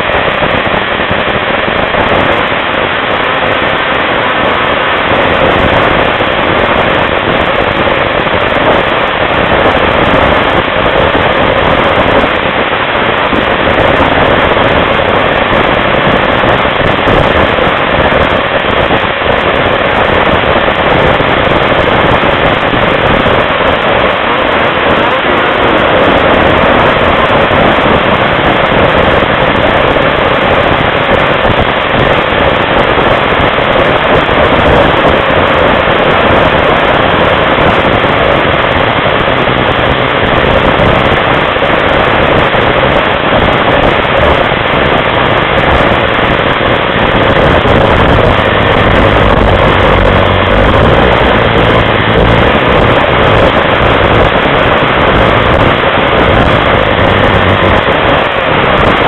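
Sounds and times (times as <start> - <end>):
snowmobile engine at speed: 0.0 - 59.0.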